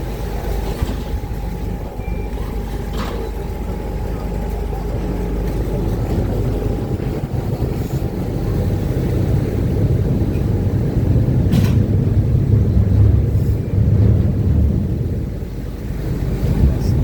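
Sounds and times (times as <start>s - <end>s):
boat engines rumbling: 0.0s - 17.0s.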